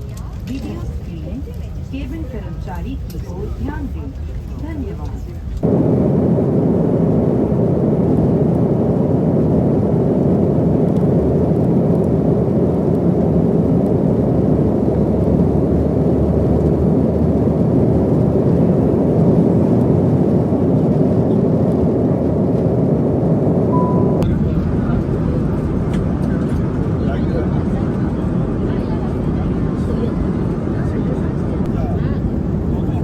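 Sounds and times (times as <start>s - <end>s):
airliner cabin drone: 0.0s - 33.0s.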